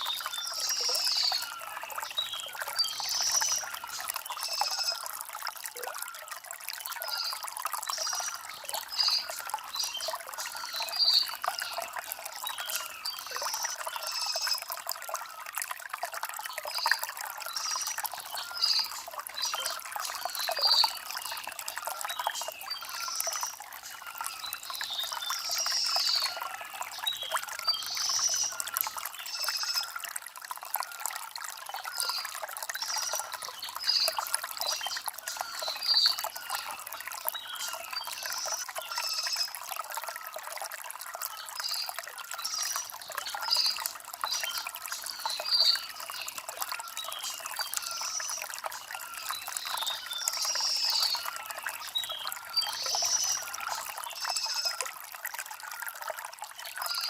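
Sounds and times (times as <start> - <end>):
small birds chirping: 0.0 - 6.2, 6.8 - 15.4, 16.5 - 30.0, 31.6 - 39.6, 41.2 - 54.8
stream trickling over stones: 0.0 - 57.0.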